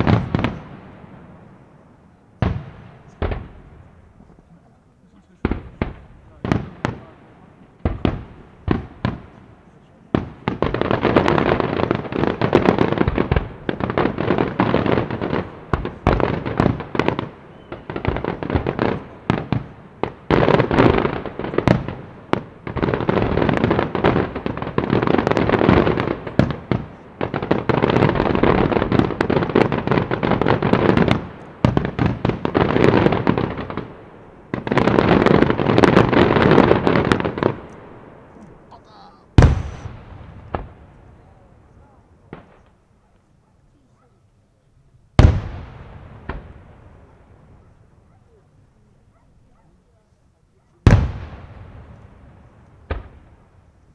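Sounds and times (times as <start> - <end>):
fireworks bursting: 0.0 - 44.1, 45.1 - 48.6, 50.8 - 53.9.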